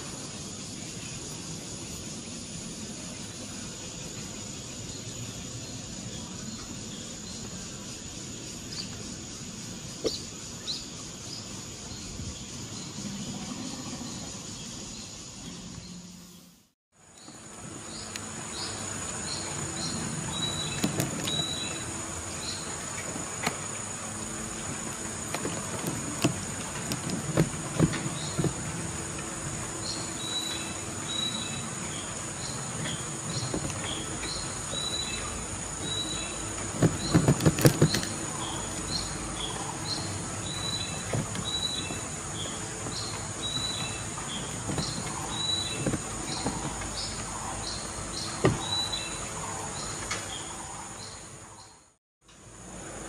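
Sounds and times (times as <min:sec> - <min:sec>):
insects buzzing: 0:00.0 - 0:53.0.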